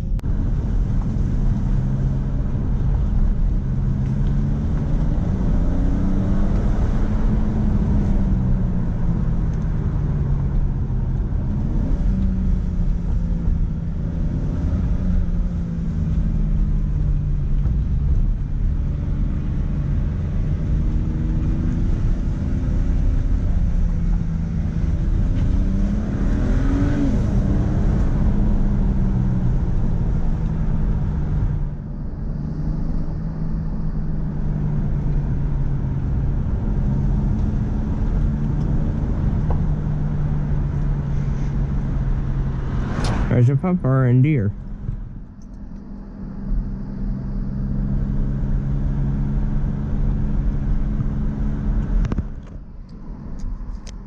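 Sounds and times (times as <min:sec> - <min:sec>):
car engine revving: 0:00.0 - 0:53.6
road and tyre rumble: 0:00.0 - 0:54.0.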